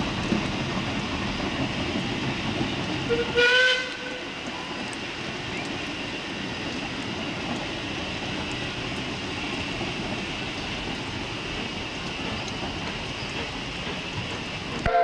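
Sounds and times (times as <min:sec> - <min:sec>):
train drawing away: 0:00.0 - 0:15.0.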